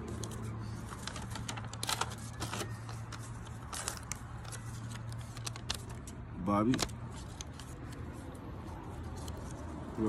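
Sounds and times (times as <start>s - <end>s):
paper tearing and crinkling: 0.0s - 8.2s.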